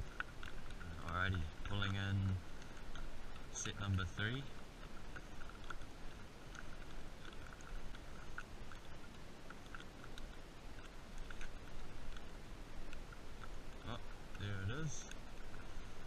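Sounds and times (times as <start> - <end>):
faint steady hiss: 0.0 - 16.0
fishing line clicking and scraping: 0.0 - 16.0.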